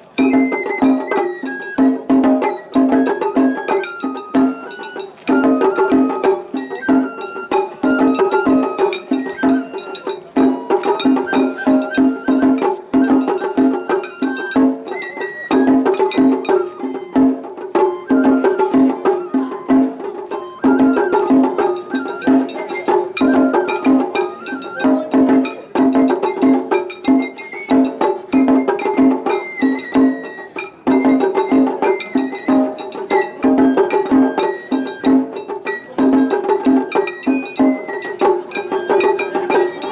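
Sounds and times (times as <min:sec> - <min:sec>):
bamboo flute melody: 0:00.0 - 0:39.9
taiko drums beating: 0:00.0 - 0:39.9.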